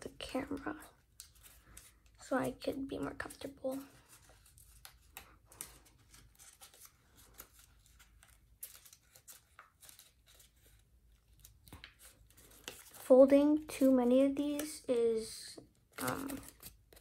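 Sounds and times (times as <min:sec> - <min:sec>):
paper rustling and crinkling: 0:00.3 - 0:17.0.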